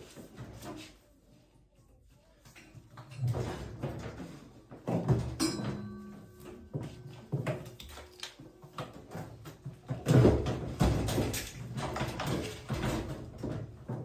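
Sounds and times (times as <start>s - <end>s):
hard objects knocking and clattering: 2.8s - 14.0s.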